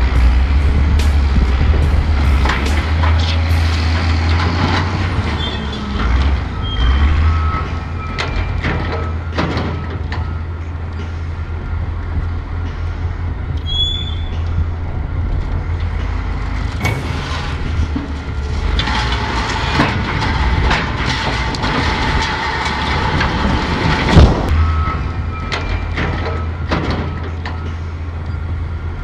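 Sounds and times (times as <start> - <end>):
diesel machinery engine rumble: 0.0 - 29.0.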